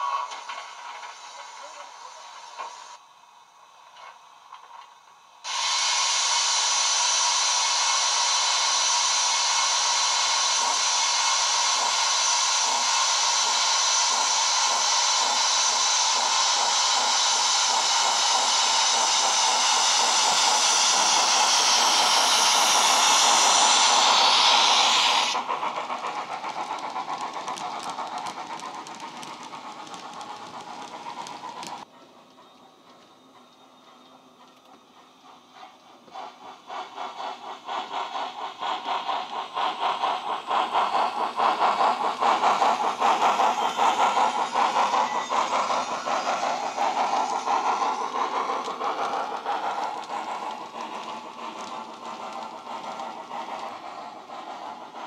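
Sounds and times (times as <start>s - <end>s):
model steam locomotive hiss: 0.0s - 55.0s
locomotive exhaust beats: 6.0s - 55.0s.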